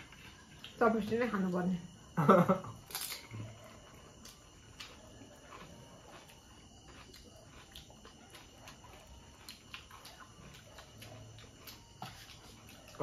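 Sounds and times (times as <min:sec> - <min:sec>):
chewing crisp food: 0:00.0 - 0:13.0.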